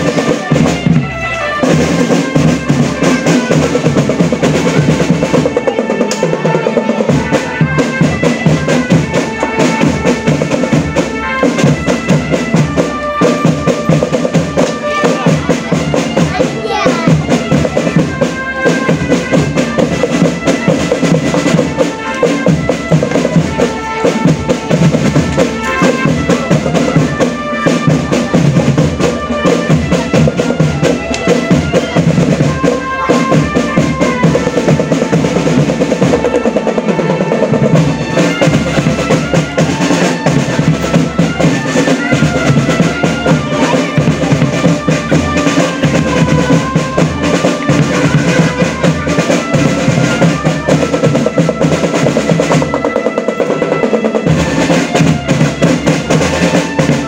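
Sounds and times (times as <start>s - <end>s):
bass and snare drums beating: 0.0s - 57.0s.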